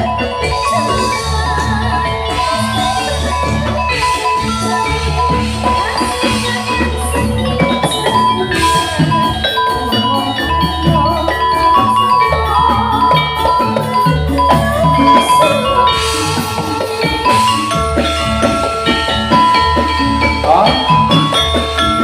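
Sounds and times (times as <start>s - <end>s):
drum strokes: 0.0s - 22.0s
gamelan music over sound system: 0.0s - 22.0s
metallophones ringing a melody: 0.0s - 22.0s.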